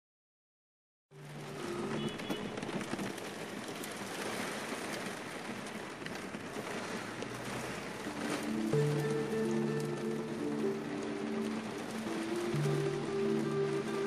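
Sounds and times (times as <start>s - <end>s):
rain on a roof panel: 1.1s - 14.0s.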